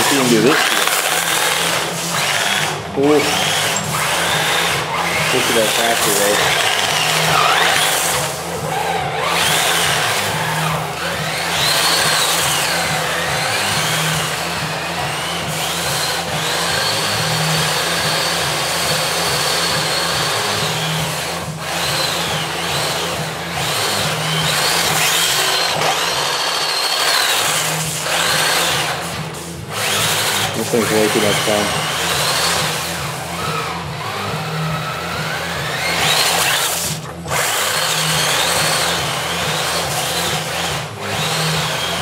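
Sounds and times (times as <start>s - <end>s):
low regular pulsing: 0.0s - 19.8s, 27.4s - 42.0s
toy truck motor whining: 0.0s - 42.0s.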